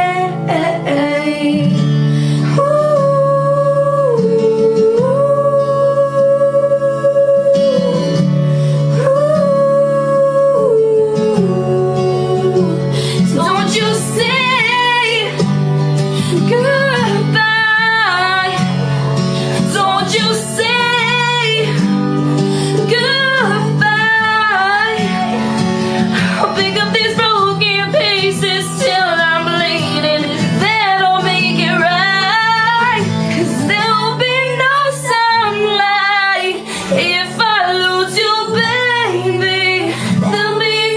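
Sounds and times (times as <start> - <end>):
slow pop song: 0.0 - 40.9.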